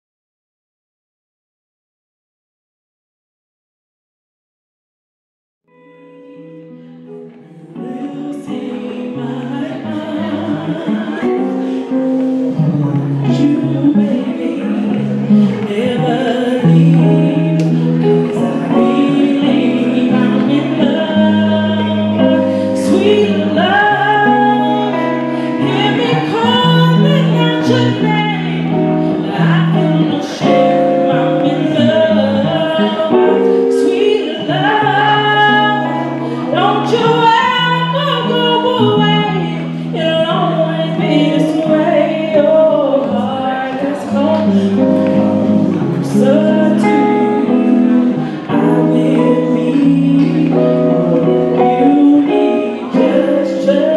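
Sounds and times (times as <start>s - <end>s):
guitar: 5.7s - 53.9s
woman singing into microphone: 5.8s - 53.9s.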